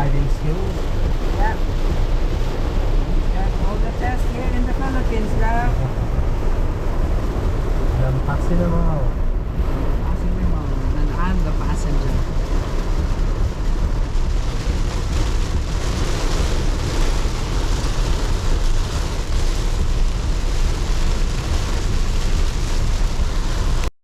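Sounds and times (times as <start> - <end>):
heavy rain on car roof: 0.0 - 23.9
low rumble: 0.0 - 23.9.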